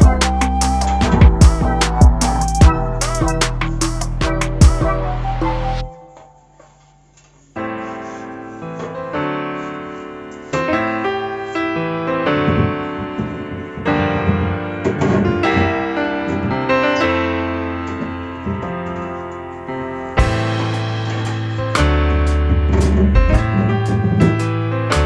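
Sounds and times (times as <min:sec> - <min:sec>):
piano music with held chords: 0:00.0 - 0:25.0.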